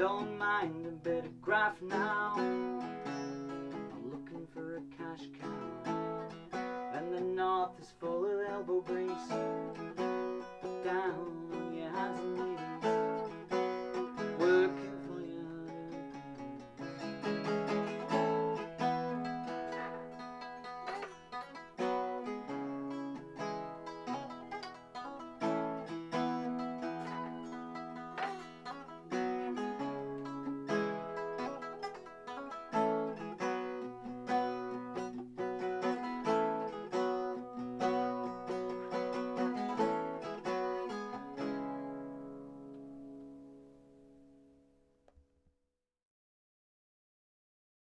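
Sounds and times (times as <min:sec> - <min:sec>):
acoustic guitar playing: 0:00.0 - 0:44.7.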